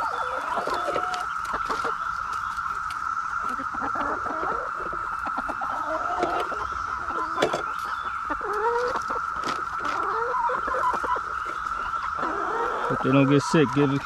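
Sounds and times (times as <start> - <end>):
cicada chorus droning: 0.0 - 14.0
hens clucking: 0.0 - 14.0.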